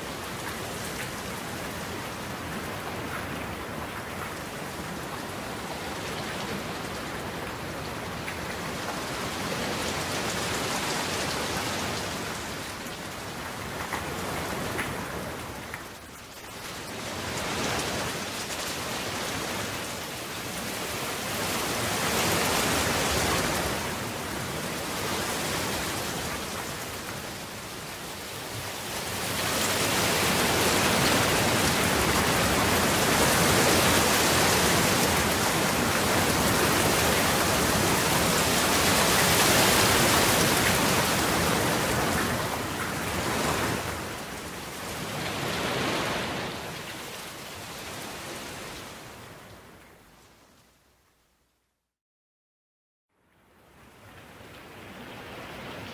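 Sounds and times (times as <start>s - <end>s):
rain falling: 0.0s - 51.2s, 53.3s - 55.9s.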